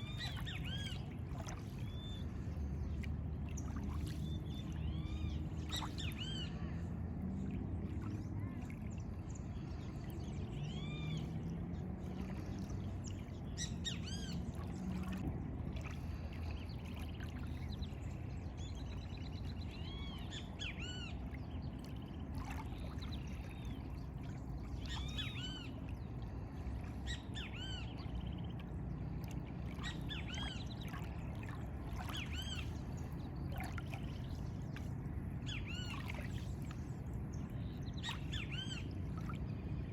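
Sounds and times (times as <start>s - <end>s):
low outdoor rumble: 0.0s - 39.9s.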